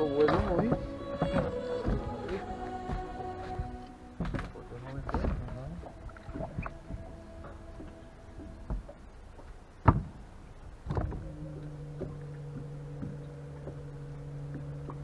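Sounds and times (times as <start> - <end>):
low hum with overtones: 0.0 - 15.0.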